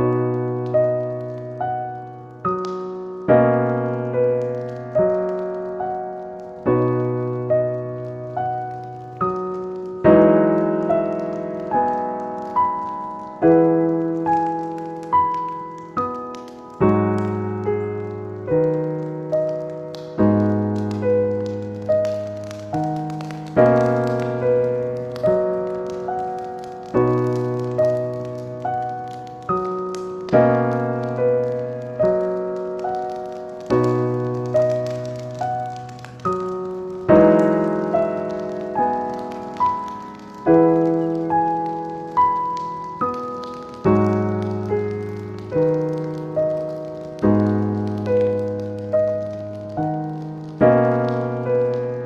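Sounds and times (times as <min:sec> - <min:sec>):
slow solo piano music: 0:00.0 - 0:52.0.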